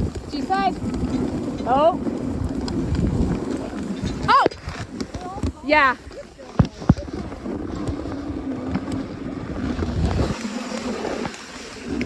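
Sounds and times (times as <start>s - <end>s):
sled runners sliding on snow: 0.0s - 12.0s
wind on microphone: 0.0s - 12.0s.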